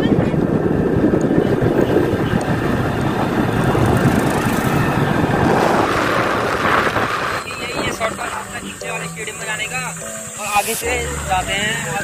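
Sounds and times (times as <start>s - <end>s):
motorcycle engine cruising: 0.0s - 12.0s
wind buffeting microphone: 0.0s - 12.0s.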